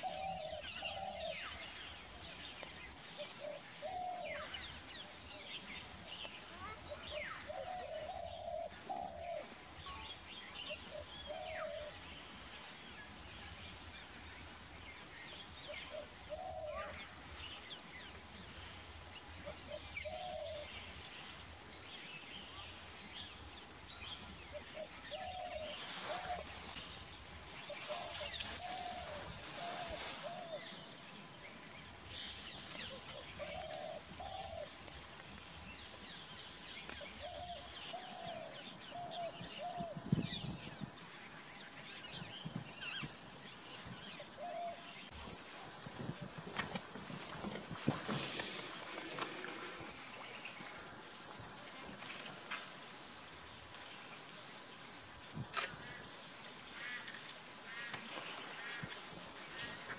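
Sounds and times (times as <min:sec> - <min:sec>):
small birds chirping faintly: 0:00.0 - 0:59.9
steady high hiss: 0:00.0 - 0:59.9.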